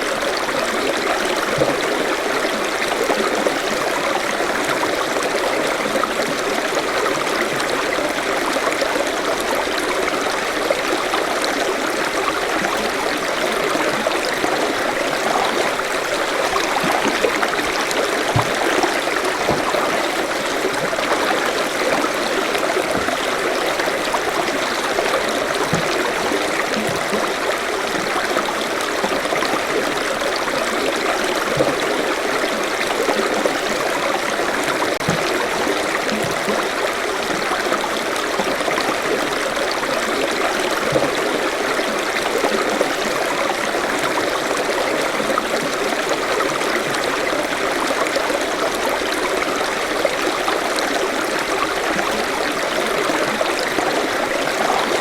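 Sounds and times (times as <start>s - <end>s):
stream water burbling over rocks: 0.0s - 55.0s.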